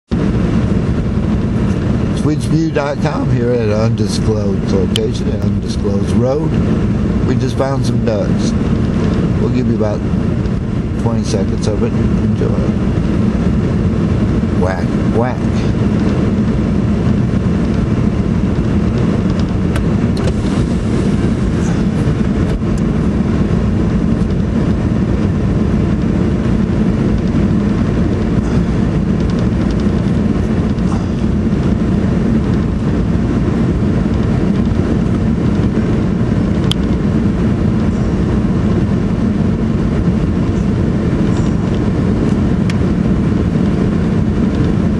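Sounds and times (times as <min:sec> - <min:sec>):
low rumbling noise: 0:00.0 - 0:44.9.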